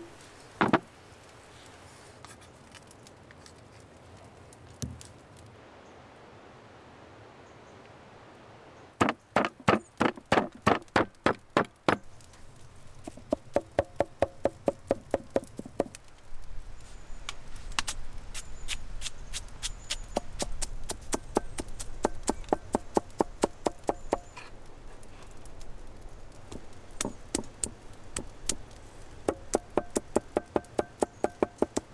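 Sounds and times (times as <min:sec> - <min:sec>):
steady low background noise: 0:00.0 - 0:31.9.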